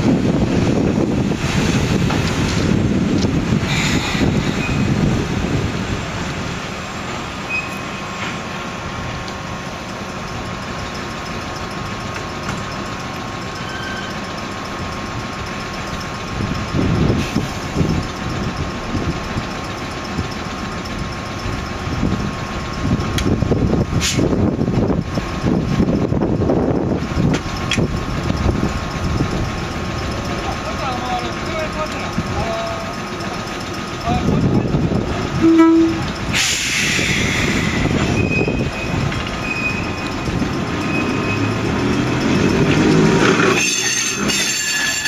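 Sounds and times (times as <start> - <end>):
electric railcar whine: 0.0 - 45.0
low train rumble: 0.0 - 45.0.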